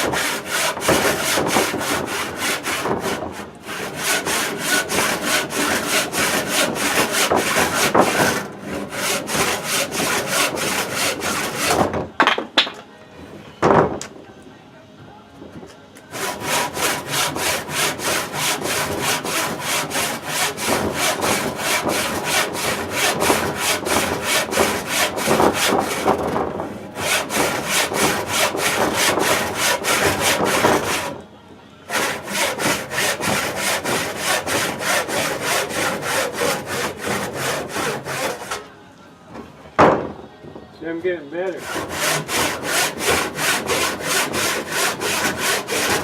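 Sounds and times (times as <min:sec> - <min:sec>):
hand saw cutting wood: 0:00.0 - 0:12.0, 0:16.1 - 0:31.2, 0:31.9 - 0:38.7, 0:41.4 - 0:46.0.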